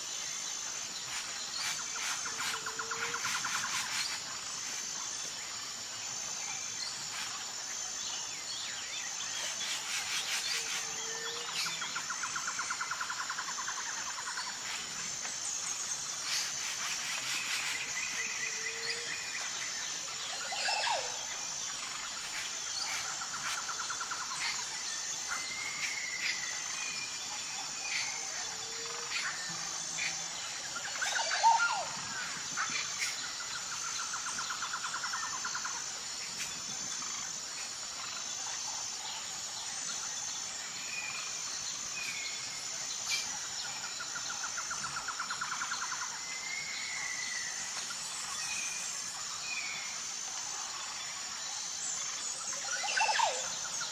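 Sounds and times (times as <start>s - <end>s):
birds calling and trilling: 0.0s - 53.9s
high insect chorus: 0.0s - 53.9s.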